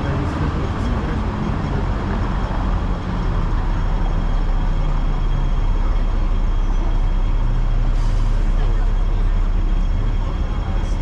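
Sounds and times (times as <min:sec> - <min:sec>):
road traffic: 0:00.0 - 0:11.0
tram rumbling on rails: 0:00.0 - 0:11.0.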